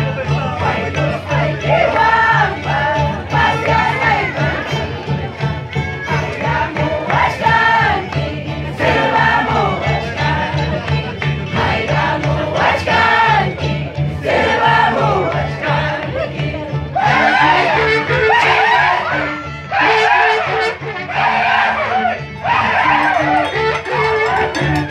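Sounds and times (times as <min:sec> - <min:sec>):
crowd voices: 0:00.0 - 0:24.9
group of voices singing: 0:00.0 - 0:24.9
harp and violin band music: 0:00.0 - 0:24.9.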